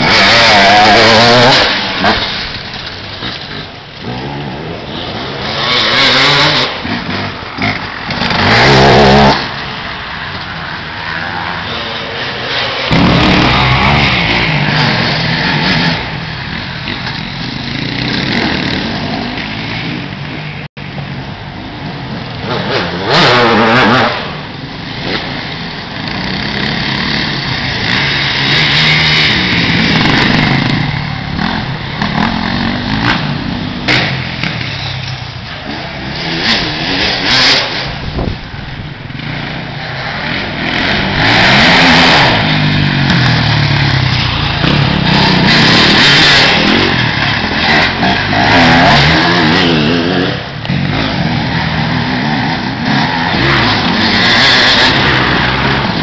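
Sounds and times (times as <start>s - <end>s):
motorcycles revving hard passing: 0.0s - 56.0s.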